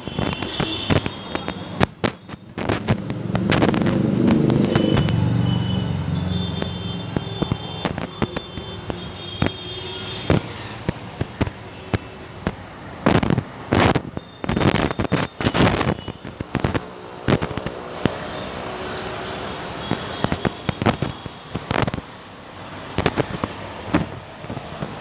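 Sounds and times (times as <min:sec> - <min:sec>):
firecrackers banging: 0:00.0 - 0:18.3, 0:19.5 - 0:25.0.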